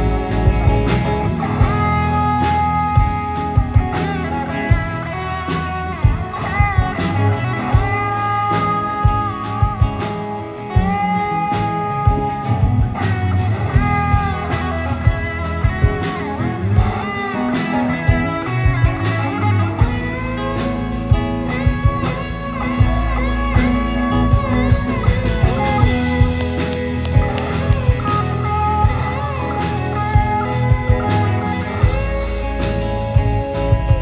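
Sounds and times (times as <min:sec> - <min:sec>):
bass guitar: 0:00.0 - 0:34.0
drums: 0:00.0 - 0:34.0
electric guitar solo: 0:00.0 - 0:34.0.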